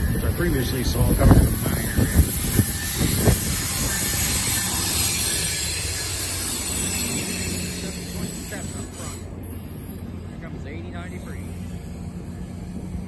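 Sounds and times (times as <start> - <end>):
diesel locomotive engine hum: 0.0 - 13.0
wheels hissing on rail: 0.0 - 13.0.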